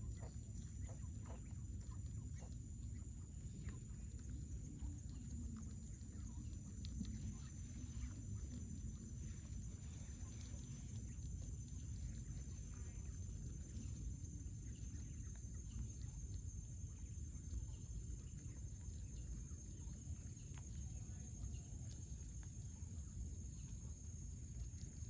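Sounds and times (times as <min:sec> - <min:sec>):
faint ticks: 0:00.0 - 0:25.0.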